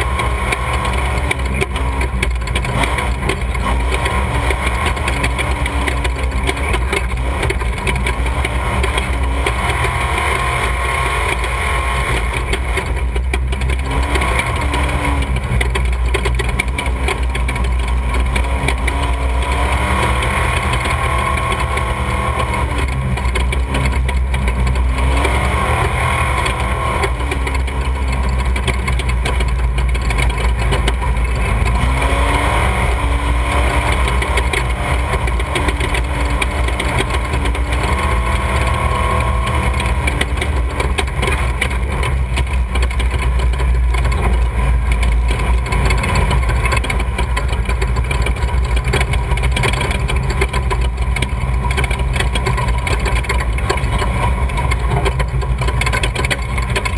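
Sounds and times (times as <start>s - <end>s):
off-road vehicle engine running: 0.0s - 56.9s.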